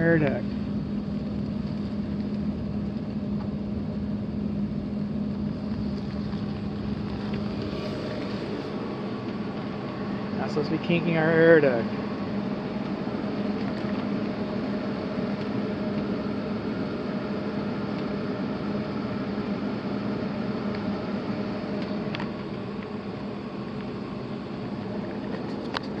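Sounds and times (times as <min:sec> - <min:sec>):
air handler blower rushing air: 0:00.0 - 0:26.0
low hum: 0:00.0 - 0:26.0.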